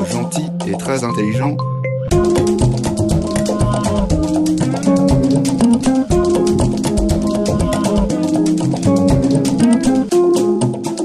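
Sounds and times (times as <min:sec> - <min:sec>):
instrumental music with guitar and percussion: 0:02.1 - 0:11.0.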